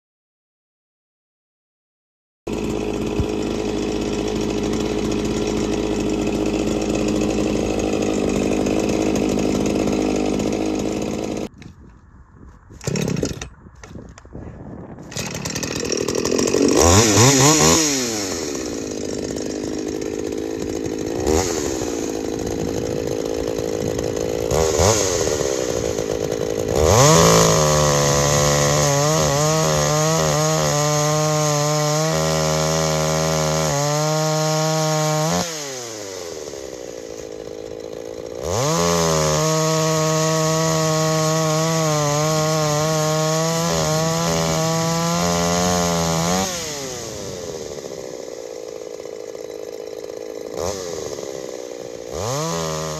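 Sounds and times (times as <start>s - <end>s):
chainsaw idling and revving: 2.5s - 11.5s, 12.8s - 14.0s, 15.0s - 52.9s
chainsaw cutting through log: 2.5s - 11.8s, 12.8s - 14.2s, 15.0s - 52.9s.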